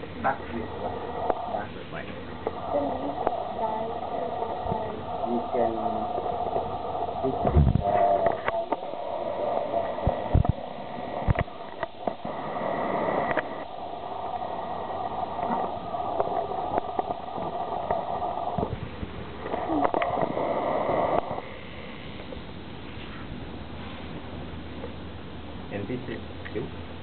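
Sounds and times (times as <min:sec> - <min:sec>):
workshop hum: 0:00.0 - 0:27.0.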